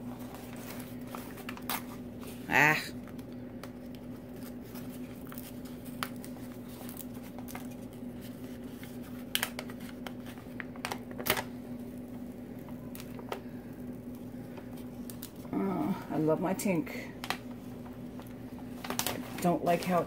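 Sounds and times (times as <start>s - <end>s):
plastic film and paper crinkling: 0.0s - 16.2s, 17.0s - 20.0s
steady low hum: 0.0s - 20.0s.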